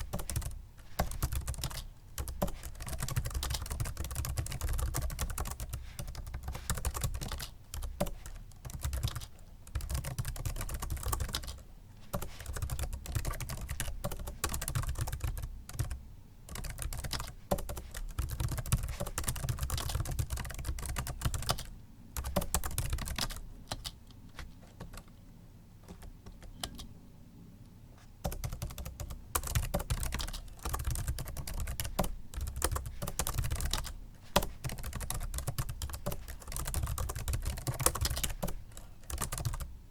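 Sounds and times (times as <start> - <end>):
fast typing on keyboard: 0.0 - 24.0, 24.7 - 25.1, 25.8 - 26.9, 28.2 - 39.7.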